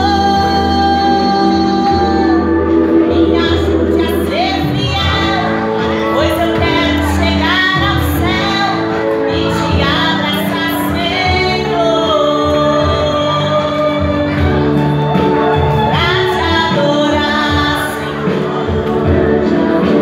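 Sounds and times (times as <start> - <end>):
woman singing into microphone: 0.0 - 20.0.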